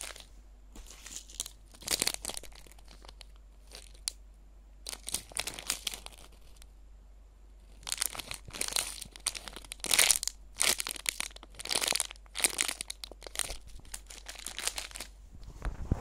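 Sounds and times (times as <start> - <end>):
plastic packaging crinkling: 0.0 - 4.2, 4.8 - 6.7, 7.7 - 15.1.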